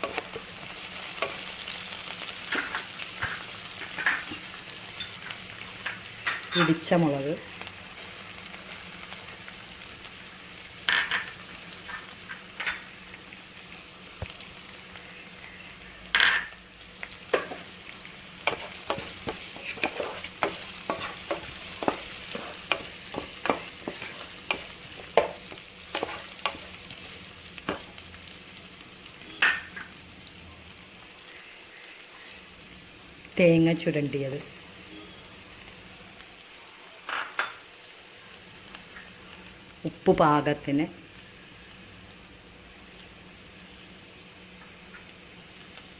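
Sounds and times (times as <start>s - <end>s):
food sizzling in oil: 0.0s - 45.9s.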